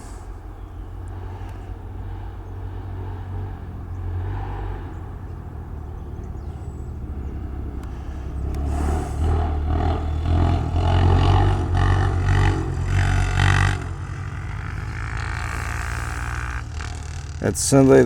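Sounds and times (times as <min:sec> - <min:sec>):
distant road vehicles rumbling: 0:00.0 - 0:18.0.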